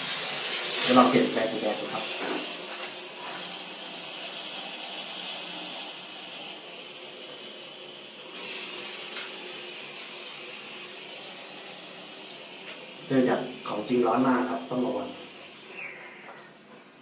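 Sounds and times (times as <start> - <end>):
steam cleaner hissing: 0.0 - 16.7.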